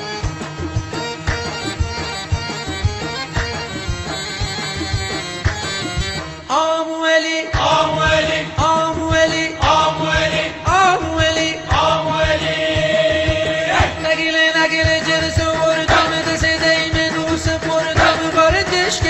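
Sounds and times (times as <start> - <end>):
drum beats: 0.0 - 6.5, 7.6 - 19.0.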